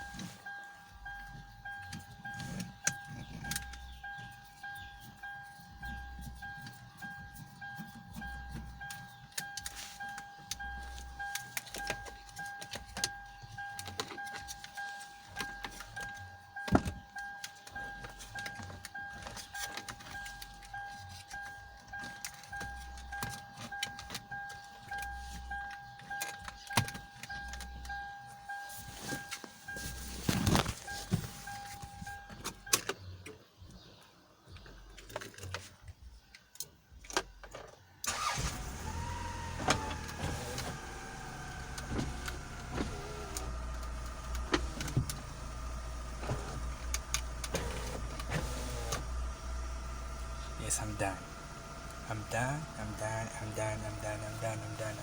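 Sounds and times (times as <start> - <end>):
car warning chime beeping: 0.0 - 33.3, 38.0 - 55.0.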